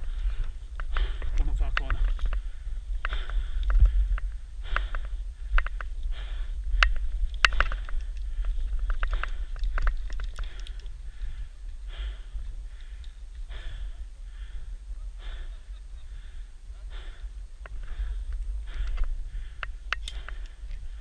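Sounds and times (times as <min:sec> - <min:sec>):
low rumble: 0:00.0 - 0:21.0
person breathing hard: 0:00.0 - 0:21.0.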